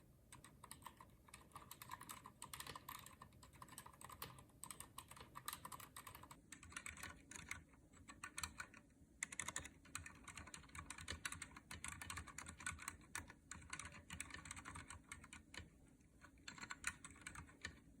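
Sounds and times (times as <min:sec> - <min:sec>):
soft keyboard keystrokes: 0:00.3 - 0:17.9.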